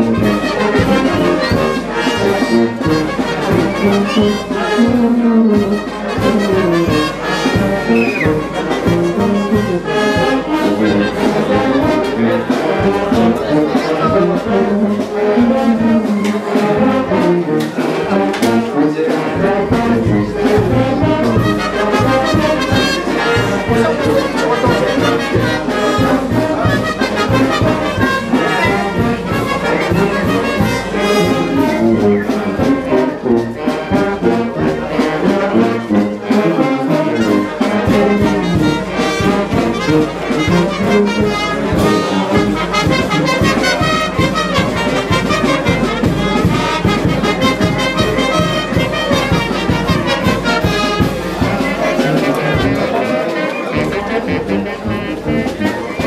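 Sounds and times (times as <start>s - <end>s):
brass band playing dance tune: 0.0s - 56.0s
steady drum beat: 0.0s - 56.0s.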